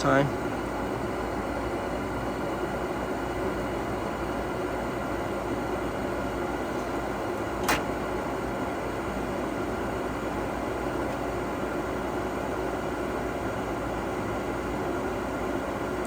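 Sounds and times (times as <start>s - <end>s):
gas furnace whirring: 0.0s - 16.0s.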